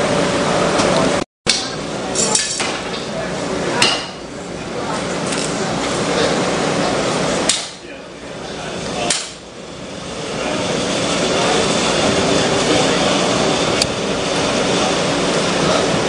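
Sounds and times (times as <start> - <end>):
mechanical running noise: 0.0 - 16.0.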